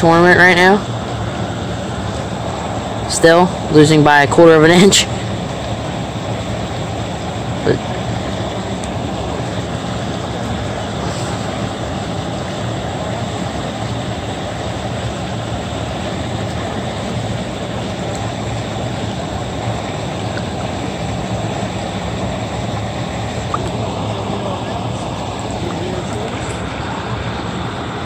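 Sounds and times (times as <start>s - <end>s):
engine drone: 0.0s - 28.0s.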